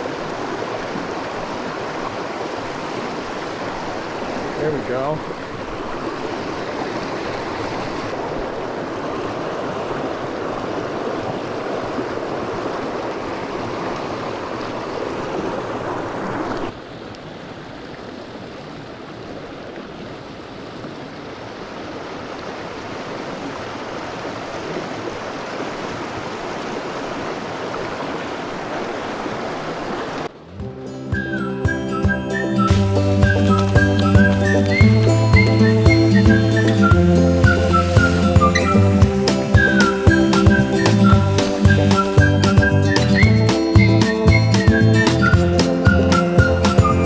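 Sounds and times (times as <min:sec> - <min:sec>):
stream babbling over rocks: 0:00.0 - 0:30.3, 0:32.7 - 0:42.9.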